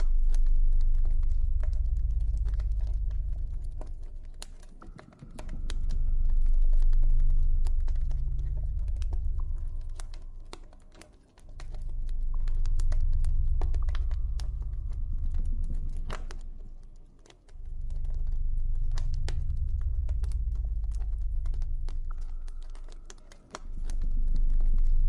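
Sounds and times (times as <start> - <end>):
low droning ambient tone: 0.0 - 25.0.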